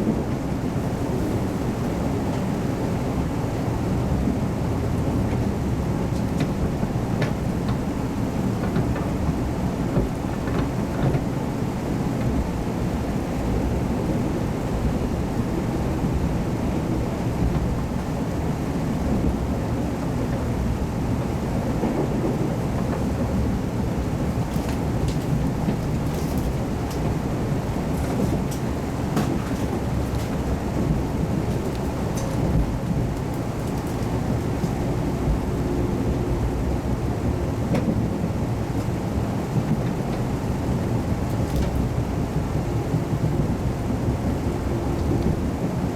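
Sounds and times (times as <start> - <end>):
train running gear rumble: 0.0 - 45.9.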